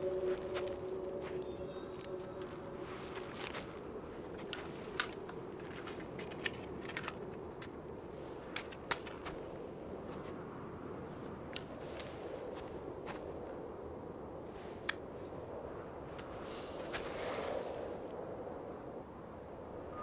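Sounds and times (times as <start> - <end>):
wind blowing: 0.0 - 20.0.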